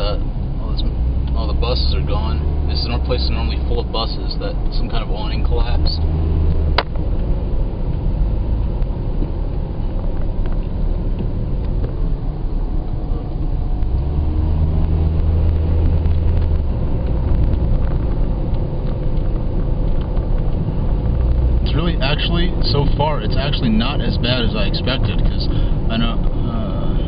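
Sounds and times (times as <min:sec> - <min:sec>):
car engine hum: 0:00.0 - 0:27.0
road noise: 0:00.0 - 0:27.0.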